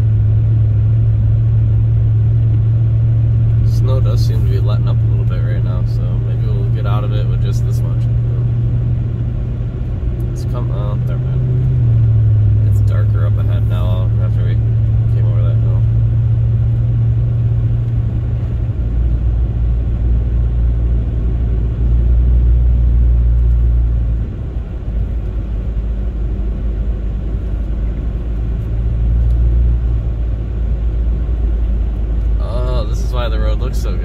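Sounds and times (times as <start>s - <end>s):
car engine drone: 0.0s - 34.0s
tyres on snowy road: 0.0s - 34.0s.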